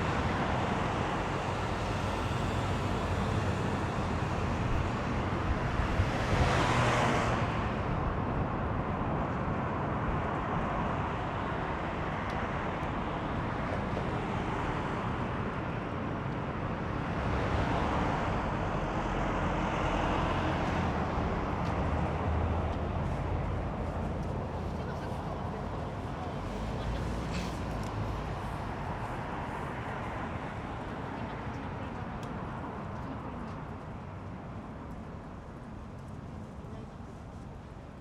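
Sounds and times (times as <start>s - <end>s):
low traffic rumble: 0.0s - 38.0s.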